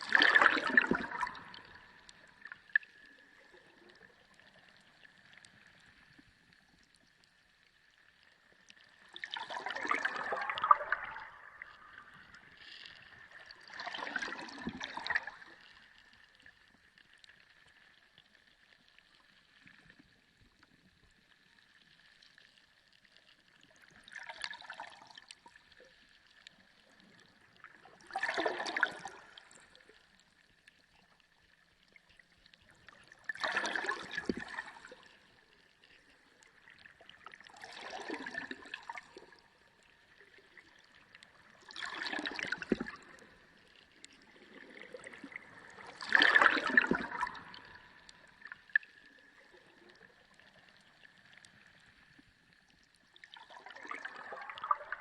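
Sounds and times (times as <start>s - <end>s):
underwater gurgling rush of water: 0.0s - 55.0s.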